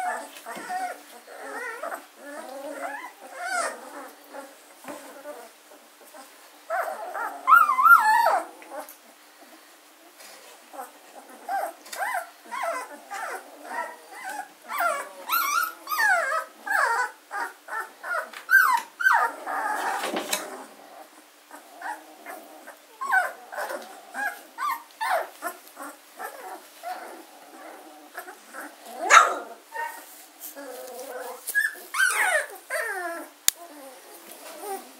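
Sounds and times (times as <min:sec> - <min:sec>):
puppies whimpering and squeaking: 0:00.0 - 0:09.0, 0:10.3 - 0:34.9.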